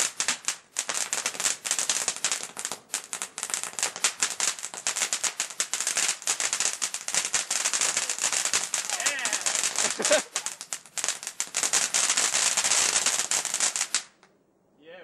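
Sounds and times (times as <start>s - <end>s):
firework fountain crackling: 0.0s - 14.2s.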